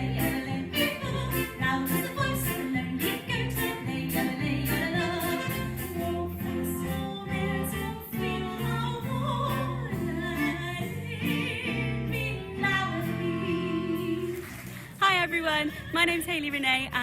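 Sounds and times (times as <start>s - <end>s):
instrumental accompaniment: 0.0s - 14.4s
person singing with vibrato: 0.0s - 14.5s.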